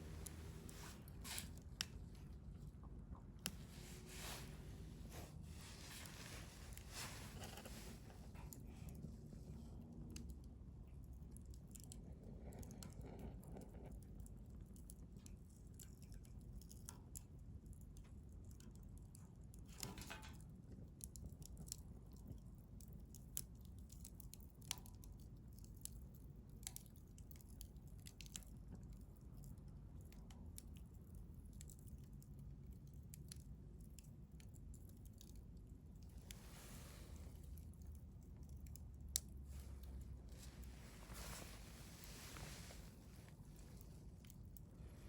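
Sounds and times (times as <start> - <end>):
low steady fire rumble: 0.0 - 45.0
wood fire crackling: 0.0 - 45.0.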